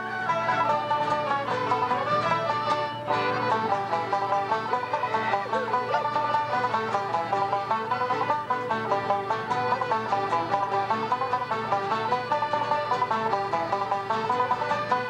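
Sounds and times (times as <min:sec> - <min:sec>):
banjo playing: 0:00.0 - 0:15.0
fiddle playing: 0:00.0 - 0:15.0.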